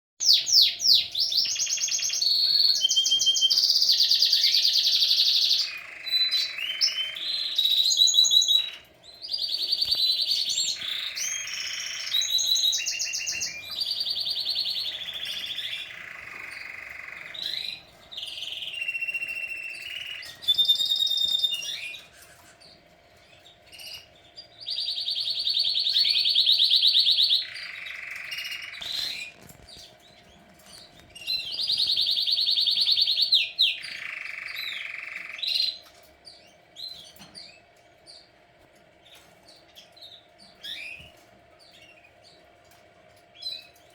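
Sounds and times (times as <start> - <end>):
canary singing trills: 0.2 - 43.9.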